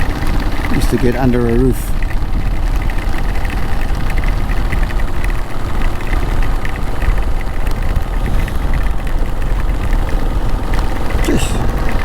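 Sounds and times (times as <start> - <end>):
heavy rain: 0.0 - 12.0
motorcycle engine running: 0.0 - 12.0
raindrop ticks: 0.0 - 12.0
wind on microphone: 0.0 - 12.0.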